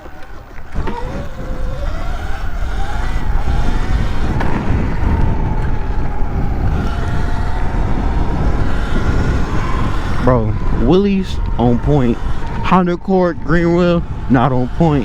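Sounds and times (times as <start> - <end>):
electric motor whining: 0.0 - 15.0
wind rumble on microphone: 0.0 - 15.0.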